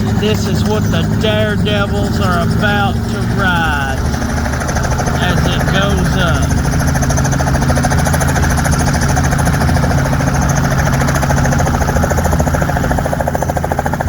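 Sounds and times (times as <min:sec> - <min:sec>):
helicopter engine drone: 0:00.0 - 0:14.0
helicopter rotor blades chopping: 0:00.0 - 0:14.0.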